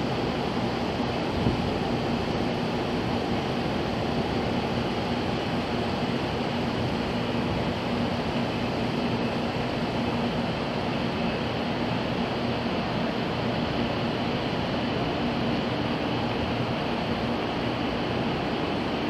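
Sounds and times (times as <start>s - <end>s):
train equipment humming: 0.0s - 19.0s.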